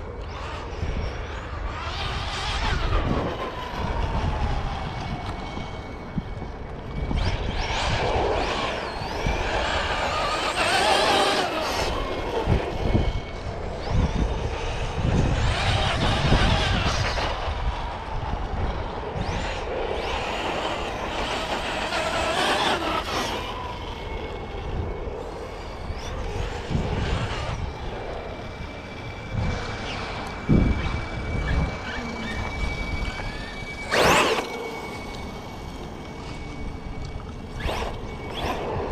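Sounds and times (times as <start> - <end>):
toy car electric motors whining: 0.0 - 38.9.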